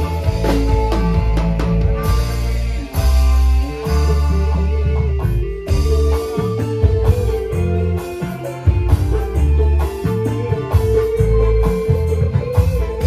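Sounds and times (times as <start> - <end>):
drum kit and hand drums: 0.0 - 13.0
electric guitar melody: 0.0 - 13.0
heavy bass: 0.0 - 13.0.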